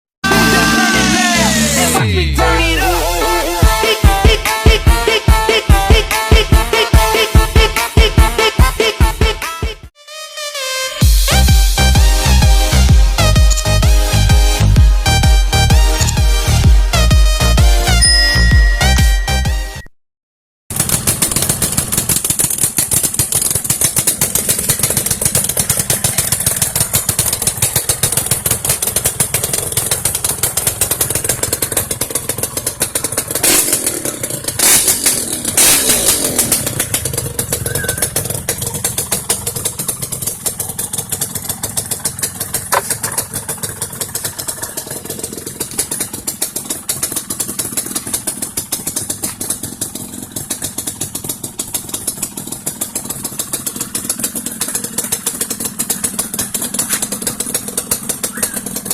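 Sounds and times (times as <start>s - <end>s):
motorcycle engine idling and revving: 0.2s - 10.0s, 11.0s - 19.5s, 20.7s - 58.9s.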